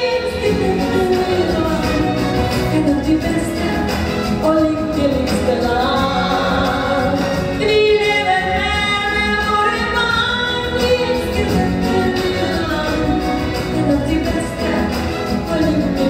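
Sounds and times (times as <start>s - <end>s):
instrumental accompaniment: 0.0s - 16.0s
woman singing into a microphone: 0.0s - 16.0s.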